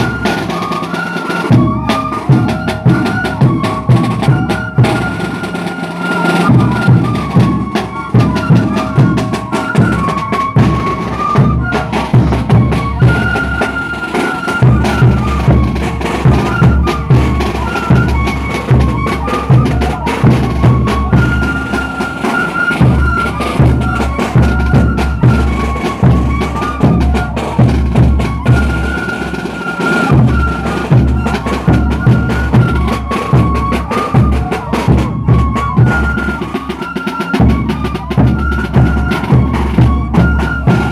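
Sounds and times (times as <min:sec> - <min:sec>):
festival band melody: 0:00.0 - 0:40.9.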